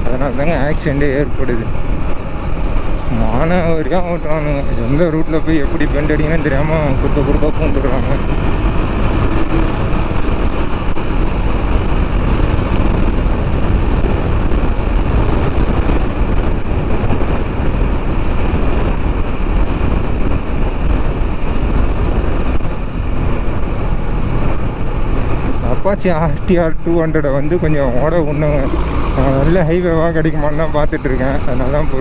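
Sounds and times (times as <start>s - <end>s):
motorcycle engine running: 0.0s - 32.0s
tyres on road: 0.0s - 32.0s
wind rush on microphone: 0.0s - 32.0s.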